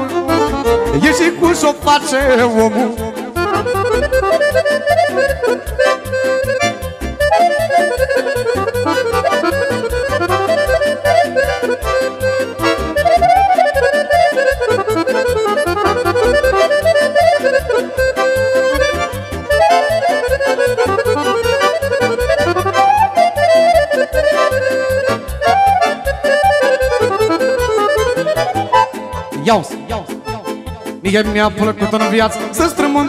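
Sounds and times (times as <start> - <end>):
electronic accordion melody: 0.0 - 33.0
keyboard rhythm accompaniment: 0.0 - 33.0.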